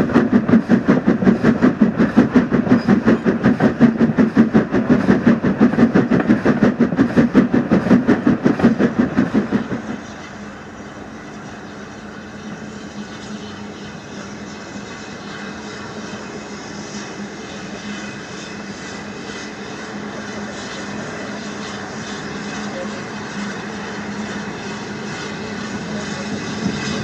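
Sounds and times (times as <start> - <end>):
steam train beat: 0.0 - 11.1, 12.2 - 27.0.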